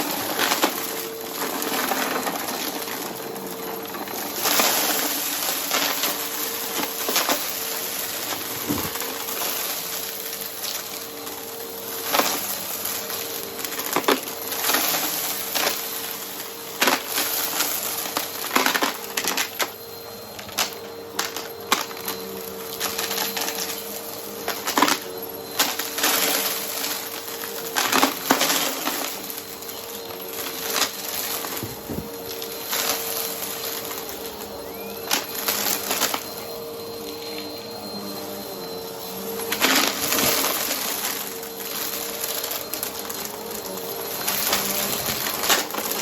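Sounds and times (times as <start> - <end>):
vacuum cleaner motor hum: 0.0 - 46.0.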